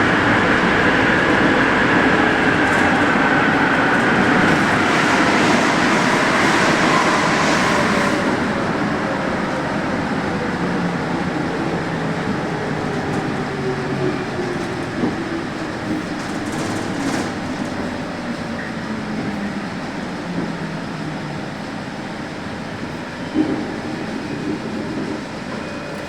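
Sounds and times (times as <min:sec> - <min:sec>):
metro train motor whine: 0:00.0 - 0:26.0.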